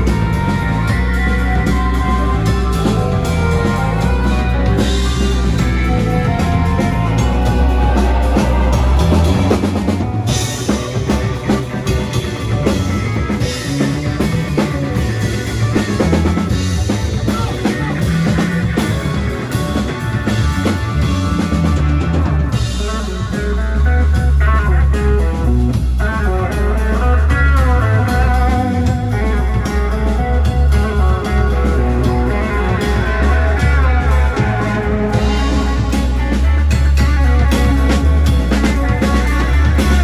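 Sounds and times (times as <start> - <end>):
drum kit: 0.0 - 40.0
electric guitar: 0.0 - 40.0
keyboards: 0.0 - 40.0.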